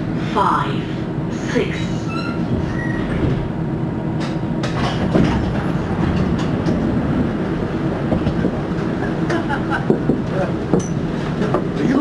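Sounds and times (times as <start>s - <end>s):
monorail running gear rumble: 0.0s - 12.0s.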